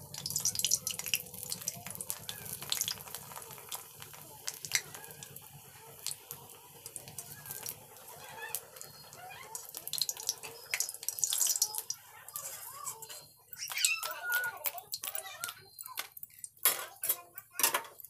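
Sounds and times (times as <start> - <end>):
oil sizzling and crackling: 0.0 - 18.0.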